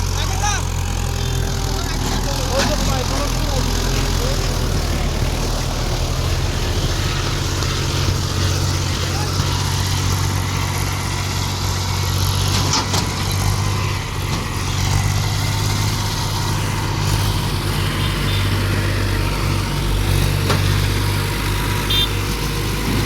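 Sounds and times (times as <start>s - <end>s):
diesel engine throbbing: 0.0s - 23.0s.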